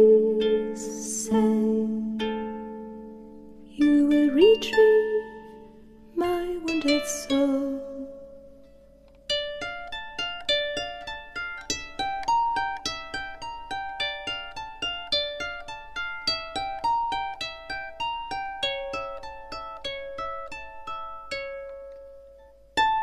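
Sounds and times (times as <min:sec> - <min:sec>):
plucked string melody: 0:00.0 - 0:23.0.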